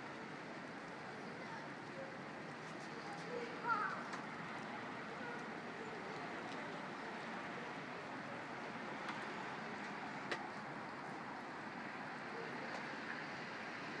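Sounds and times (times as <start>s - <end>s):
faint street hiss: 0.0s - 14.0s.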